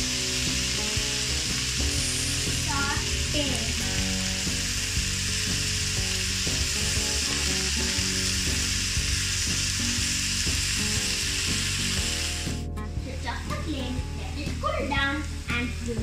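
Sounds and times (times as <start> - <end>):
food sizzling in hot oil: 0.0 - 16.0
soft background music: 0.0 - 16.0.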